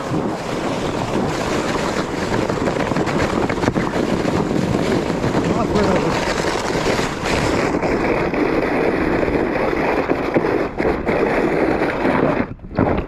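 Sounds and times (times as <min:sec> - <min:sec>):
sled scraping on snow: 0:00.0 - 0:13.0
wind on microphone: 0:00.0 - 0:13.0.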